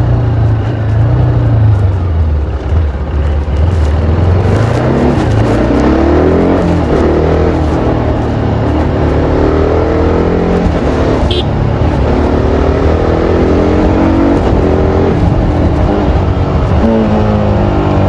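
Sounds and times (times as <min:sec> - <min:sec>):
motorcycle engine shifting gears: 0:00.0 - 0:18.0.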